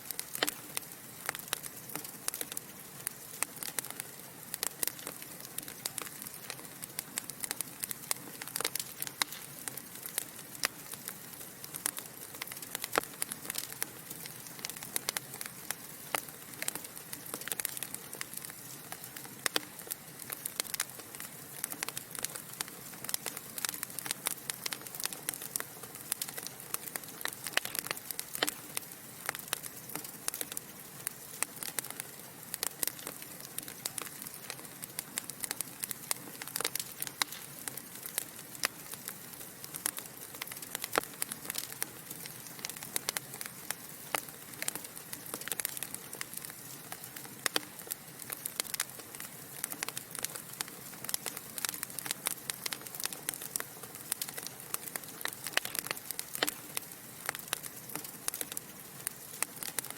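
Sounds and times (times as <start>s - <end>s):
logs crackling in fireplace: 0.0s - 59.9s
soft steady hiss: 0.0s - 59.9s.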